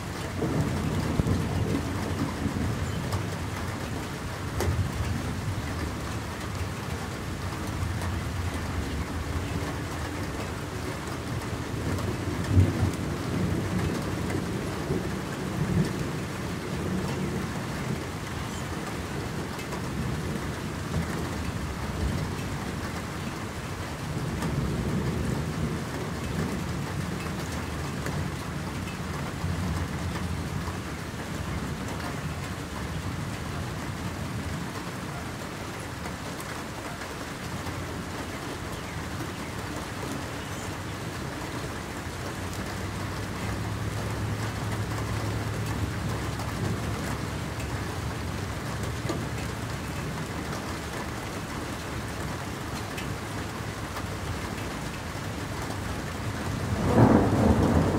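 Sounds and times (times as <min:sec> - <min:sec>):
rain pattering on water: 0:00.0 - 0:57.9
distant thunder rumbling: 0:00.1 - 0:57.9.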